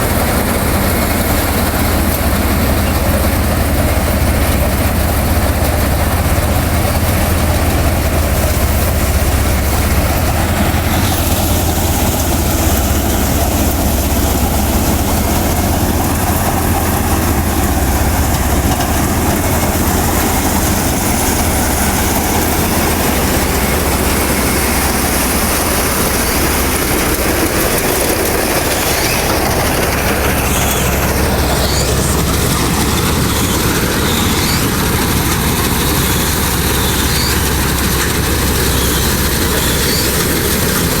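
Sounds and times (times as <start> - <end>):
harvester engine drone: 0.0 - 41.0
mechanical rush of threshing gear: 0.0 - 41.0.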